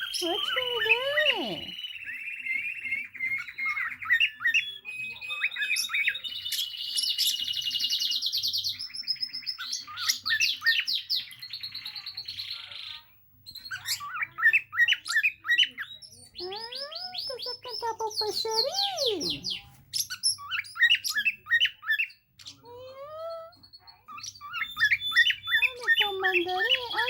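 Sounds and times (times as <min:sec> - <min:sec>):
cage birds chirping and singing: 0:00.0 - 0:27.0.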